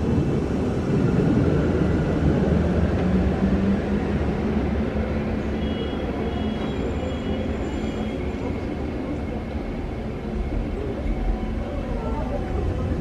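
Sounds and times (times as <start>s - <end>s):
train rumbling in tunnel: 0.0s - 13.0s.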